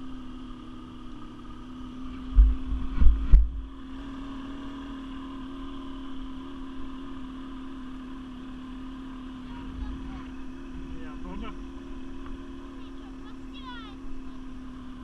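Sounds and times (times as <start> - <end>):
quad bike engine idling: 0.0 - 15.0.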